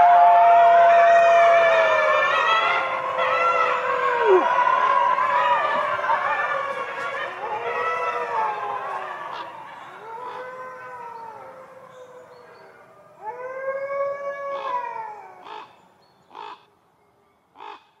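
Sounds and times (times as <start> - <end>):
wolf howling: 0.0 - 15.7.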